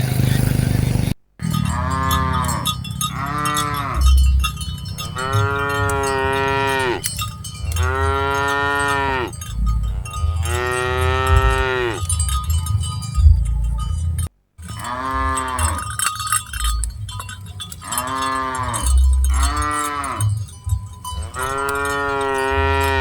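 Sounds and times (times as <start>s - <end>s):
cattle mooing: 1.4s - 16.0s, 17.8s - 20.4s, 21.0s - 23.0s.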